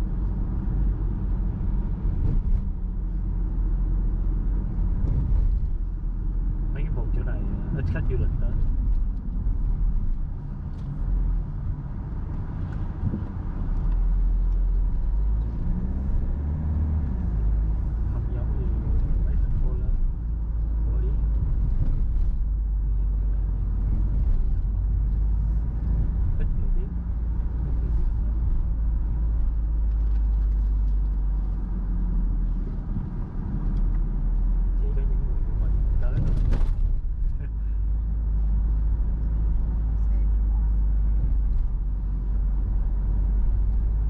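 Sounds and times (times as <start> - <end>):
car engine and tyres rumbling: 0.0 - 44.0.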